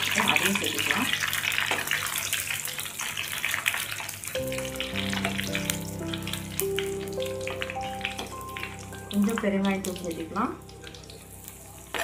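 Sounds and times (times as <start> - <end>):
background music sustained notes: 0.0 - 12.0
oil sizzling and crackling: 0.0 - 12.0.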